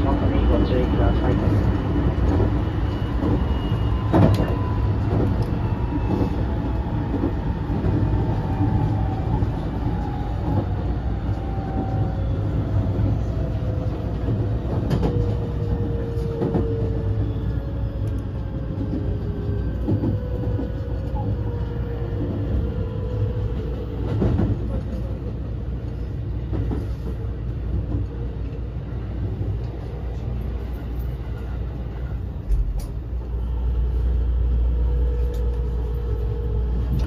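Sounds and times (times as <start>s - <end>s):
train running rumble: 0.0s - 37.0s.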